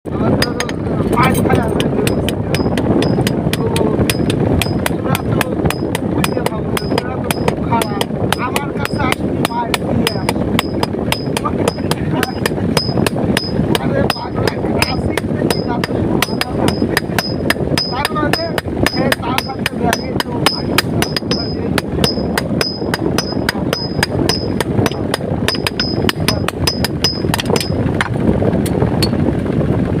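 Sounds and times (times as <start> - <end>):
hammer striking metal on anvil: 0.4 - 0.8, 1.5 - 28.2.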